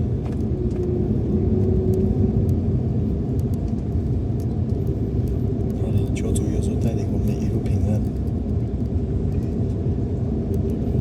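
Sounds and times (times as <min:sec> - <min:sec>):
vehicle rumble from inside: 0:00.0 - 0:11.0.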